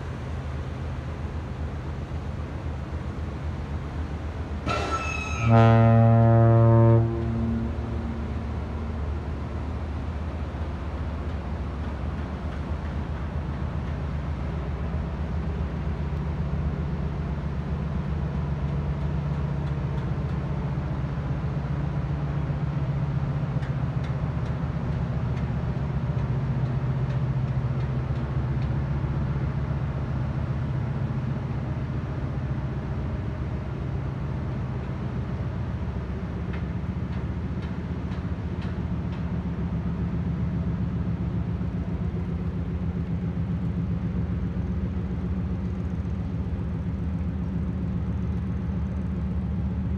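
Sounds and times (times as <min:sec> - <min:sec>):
ship engine rumble and hum: 0:00.0 - 0:49.9.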